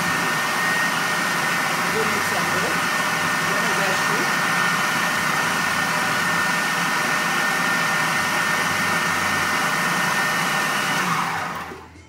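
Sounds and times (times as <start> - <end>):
blender grinding: 0.0 - 11.9
blender motor whine: 0.0 - 11.9.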